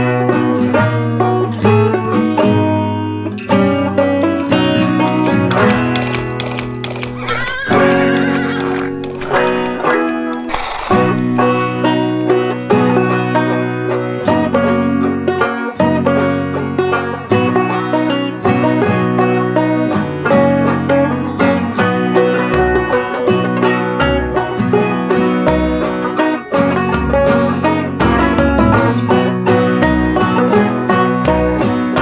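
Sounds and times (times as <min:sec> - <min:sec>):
bluegrass banjo and guitar music: 0:00.0 - 0:32.0.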